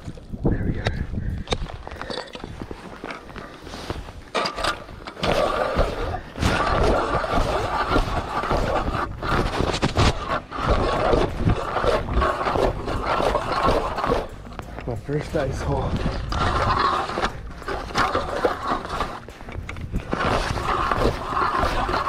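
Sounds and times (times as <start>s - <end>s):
ice auger grinding ice: 2.0s - 22.0s.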